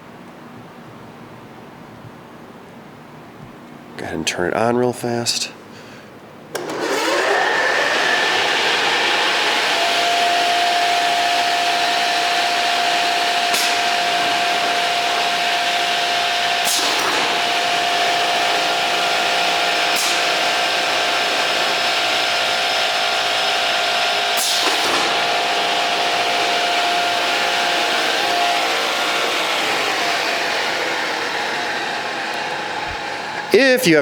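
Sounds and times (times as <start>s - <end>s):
miter saw whirring: 6.5s - 34.0s.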